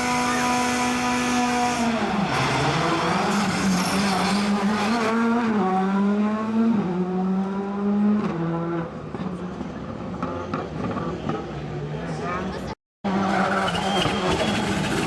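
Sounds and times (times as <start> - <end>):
rally car engine accelerating: 0.0 - 11.5, 13.1 - 15.0.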